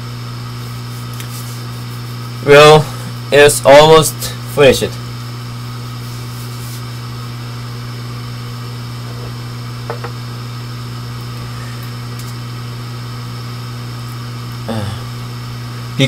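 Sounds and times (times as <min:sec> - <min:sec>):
air blower hum and hiss: 0:00.0 - 0:16.0.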